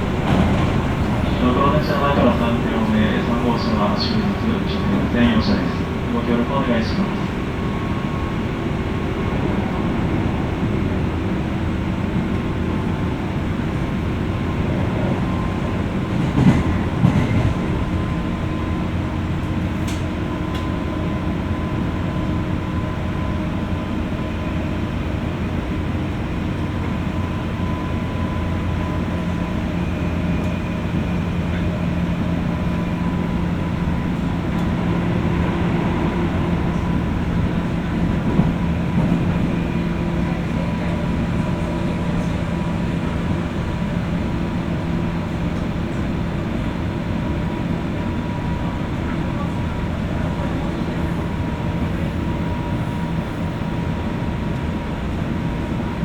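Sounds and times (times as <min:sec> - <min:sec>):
train car rumble: 0:00.0 - 0:56.0.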